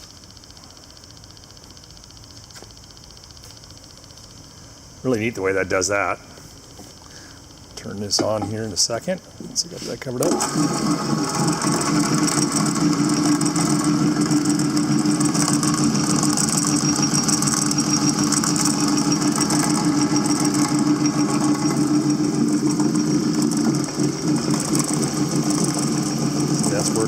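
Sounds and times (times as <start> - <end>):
drill press motor humming: 0.0 - 27.0.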